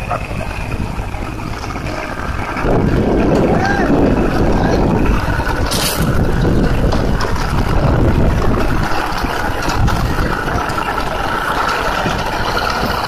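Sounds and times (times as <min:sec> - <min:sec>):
rotary tiller in dry soil: 0:00.0 - 0:13.0
tractor diesel engines running: 0:00.0 - 0:13.0.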